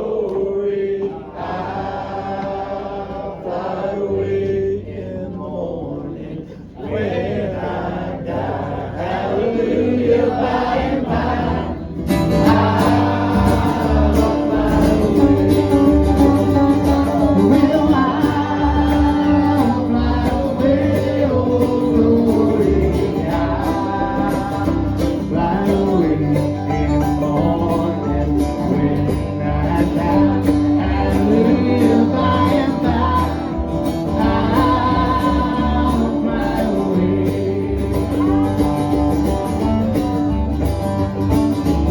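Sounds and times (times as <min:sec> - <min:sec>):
acoustic guitar: 0:00.0 - 0:41.9
country gospel band: 0:00.0 - 0:41.9.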